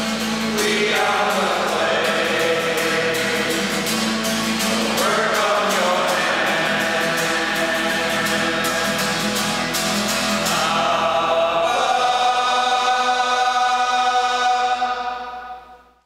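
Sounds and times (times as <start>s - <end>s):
men's choir singing: 0.0s - 15.8s
acoustic guitars strumming: 0.0s - 16.0s.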